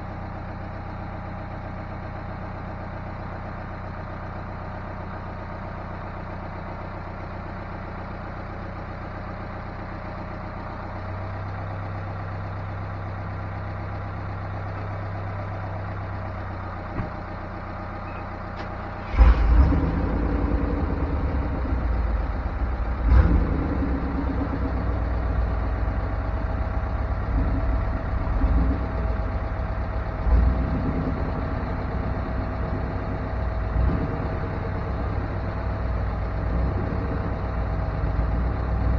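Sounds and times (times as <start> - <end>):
engine idling: 0.0 - 38.9
engine knock: 0.0 - 38.9.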